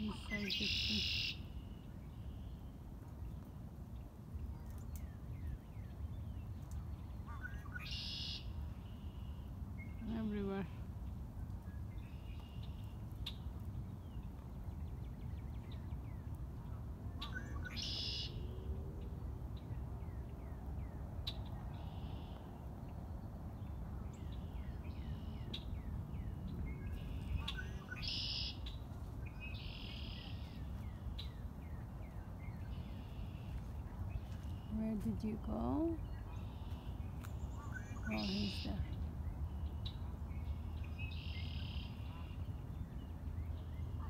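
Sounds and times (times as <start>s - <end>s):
songbirds singing buzzy trills: 0.0s - 3.4s, 4.5s - 10.8s, 11.6s - 44.0s.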